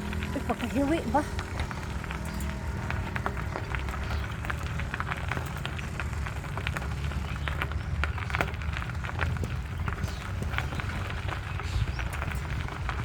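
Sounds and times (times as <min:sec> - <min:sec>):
bicycle clicks and rattles: 0:00.0 - 0:13.0
bicycle rumbling: 0:00.0 - 0:13.0.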